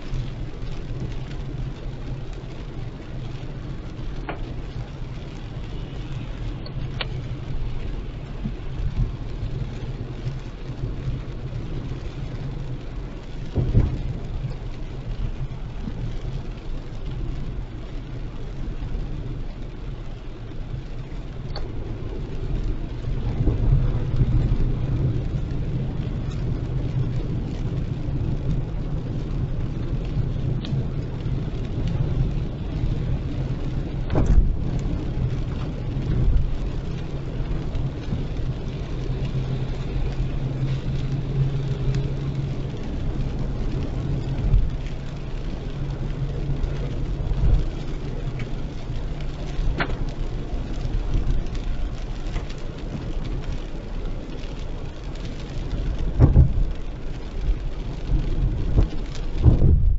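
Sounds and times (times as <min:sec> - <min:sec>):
car engine and road noise: 0:00.0 - 0:59.9
rain beating on a car: 0:00.0 - 0:59.9.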